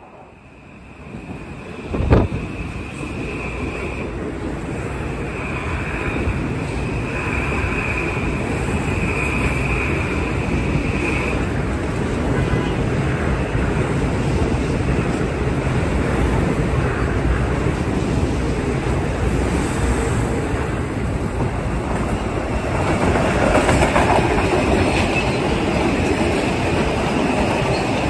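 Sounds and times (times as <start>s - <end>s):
train wheel and air rush: 0.0s - 28.0s.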